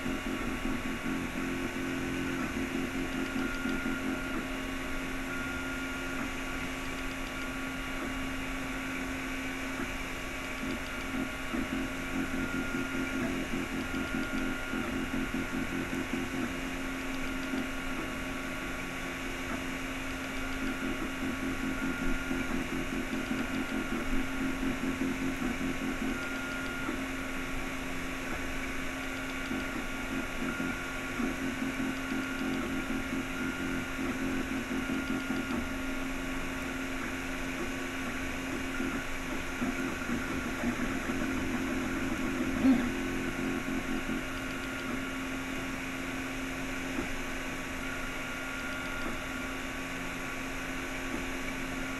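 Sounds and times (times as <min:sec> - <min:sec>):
cooling fans humming: 0:00.0 - 0:51.9
high motor whine: 0:00.0 - 0:51.9
stepper motors buzzing: 0:00.0 - 0:51.9.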